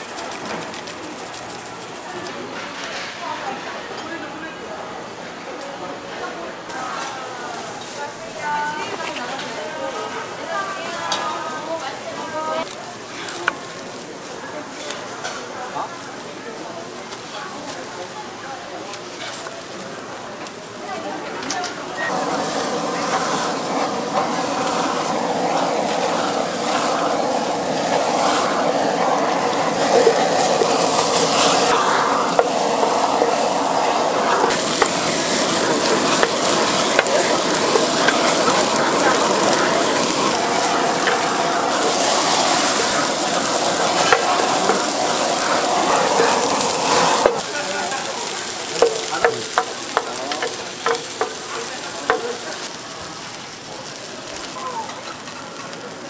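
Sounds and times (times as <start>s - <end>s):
food sizzling on grill: 0.0s - 4.6s, 6.7s - 56.0s.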